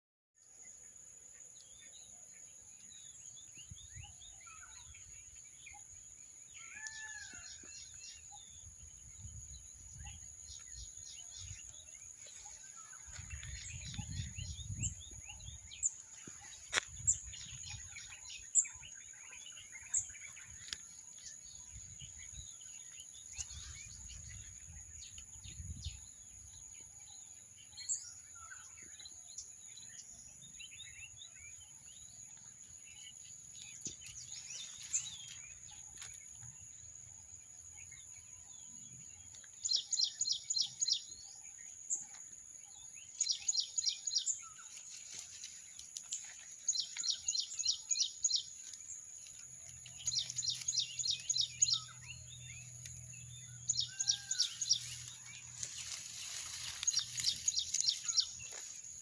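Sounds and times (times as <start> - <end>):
birds chirping: 0.7 - 59.0.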